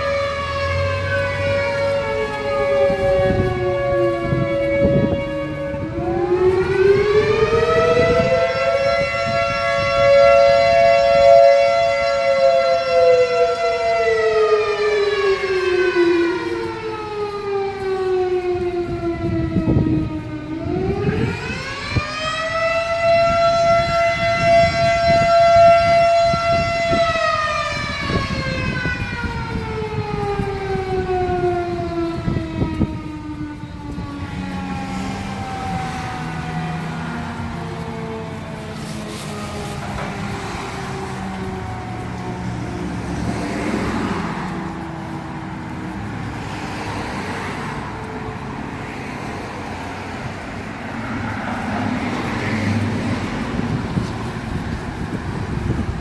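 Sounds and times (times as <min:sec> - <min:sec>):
fire alarm sirens wailing: 0:00.0 - 0:56.0.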